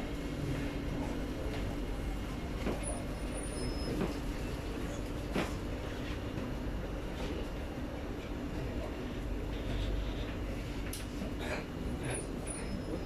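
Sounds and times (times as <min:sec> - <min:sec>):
metro train rumble and hum: 0:00.0 - 0:13.0.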